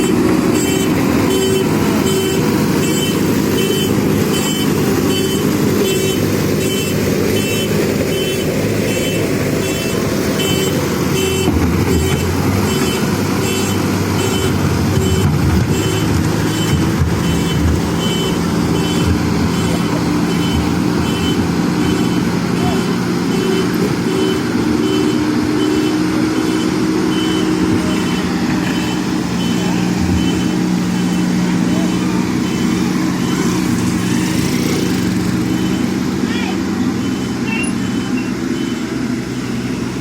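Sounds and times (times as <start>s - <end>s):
diesel engine running: 0.0s - 40.0s
reversing alarm beeping: 0.0s - 40.0s.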